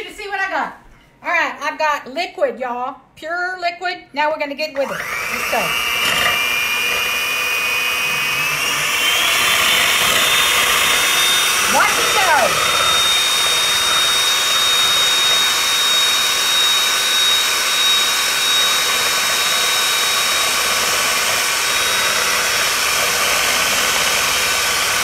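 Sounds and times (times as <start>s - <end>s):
electric hand mixer whirring: 4.8s - 25.0s.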